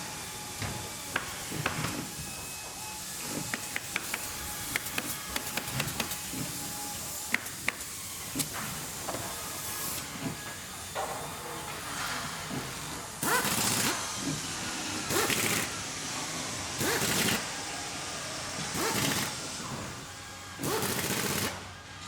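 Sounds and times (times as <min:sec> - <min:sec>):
steady machinery hiss: 0:00.0 - 0:22.0.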